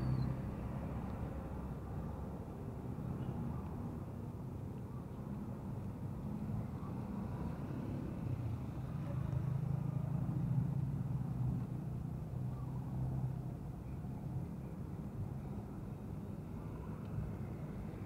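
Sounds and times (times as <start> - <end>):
passing traffic engine hum: 0.0 - 18.0.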